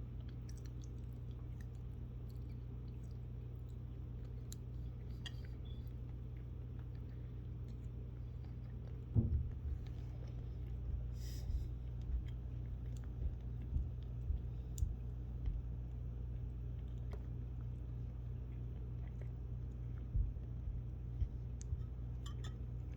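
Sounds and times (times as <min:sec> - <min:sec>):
food being chewed with crunches: 0:00.0 - 0:22.9
steady low hum: 0:00.0 - 0:22.9.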